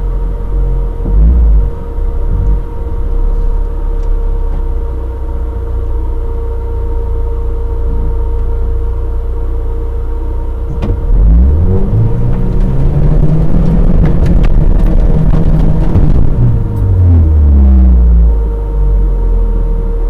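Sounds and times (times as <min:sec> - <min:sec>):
vehicle engine running low revs: 0:00.0 - 0:20.0.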